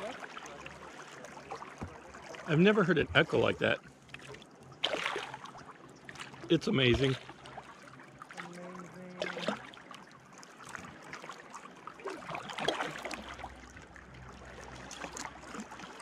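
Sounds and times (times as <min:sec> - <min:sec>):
faint water dripping and lapping: 0:00.0 - 0:16.0.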